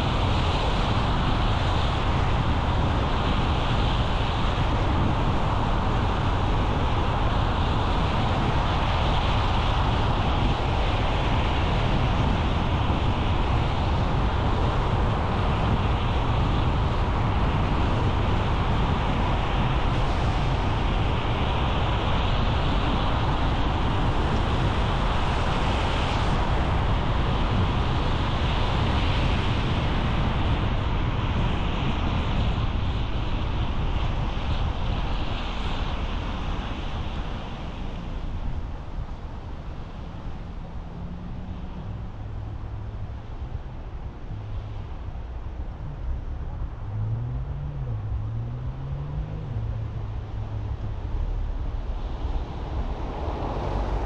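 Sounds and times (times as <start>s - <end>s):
car road and wind noise: 0.0s - 54.0s.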